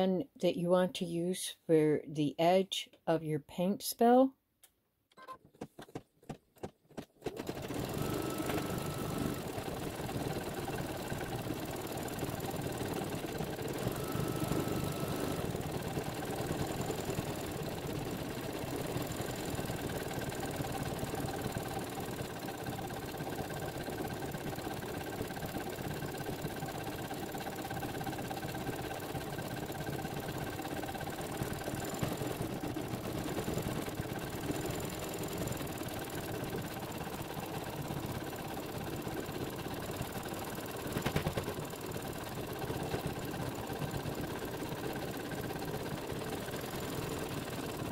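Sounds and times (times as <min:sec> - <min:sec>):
embroidery machine stitching: 0:07.2 - 0:47.9.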